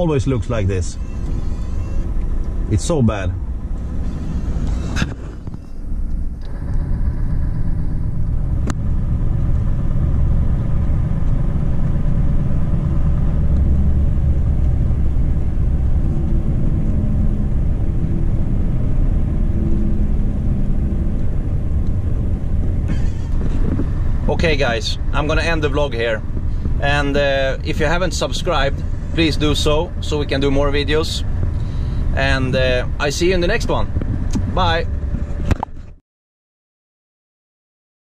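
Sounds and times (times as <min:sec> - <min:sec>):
truck diesel engine rumbling: 0:00.0 - 0:36.0.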